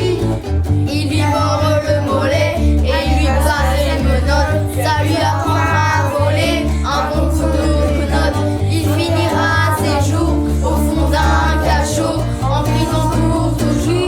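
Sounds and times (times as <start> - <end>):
children singing: 0.0 - 14.0
guitar: 0.0 - 14.0
steady bass line: 0.0 - 14.0.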